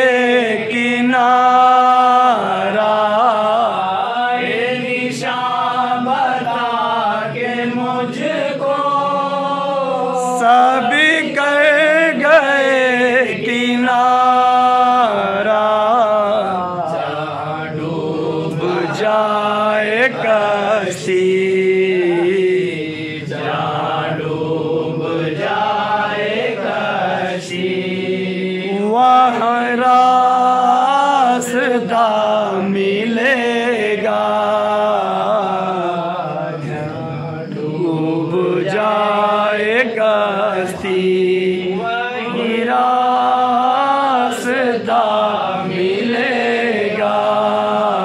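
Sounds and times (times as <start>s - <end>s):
man singing slow devotional song: 0.0s - 48.0s.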